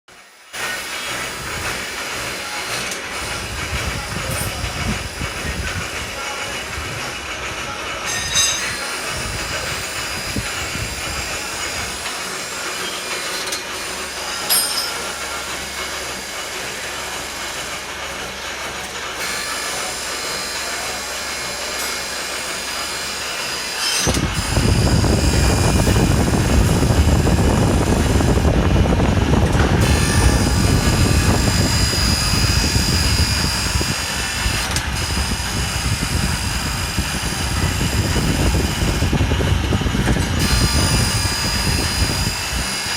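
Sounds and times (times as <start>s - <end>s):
surface grinder whining: 0.1s - 42.9s.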